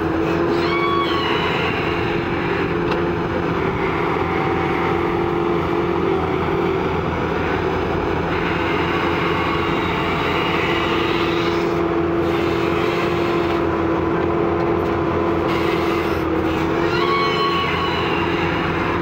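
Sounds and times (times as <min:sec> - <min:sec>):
excavator diesel engine droning: 0:00.0 - 0:19.0.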